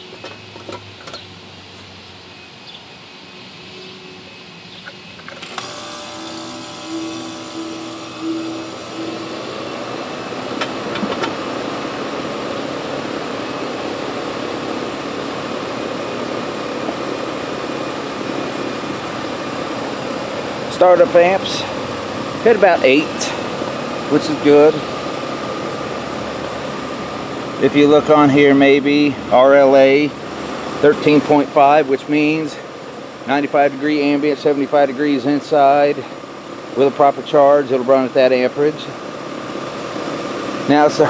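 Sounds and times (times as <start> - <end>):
air conditioner unit starting up: 3.0 - 41.0.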